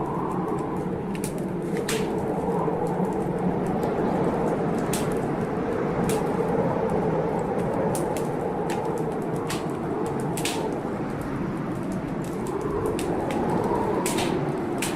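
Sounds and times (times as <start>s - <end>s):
blizzard wind blowing: 0.0s - 14.9s
wood fire crackling: 0.0s - 14.9s.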